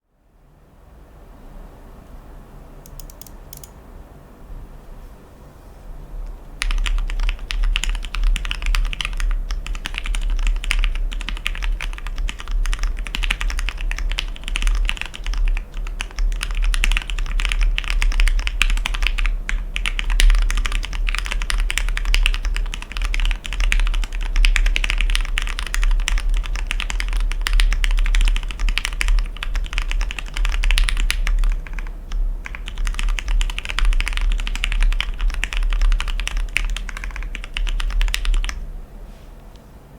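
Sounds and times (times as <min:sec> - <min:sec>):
typing on mechanical keyboard: 0:02.9 - 0:03.7, 0:06.6 - 0:38.6.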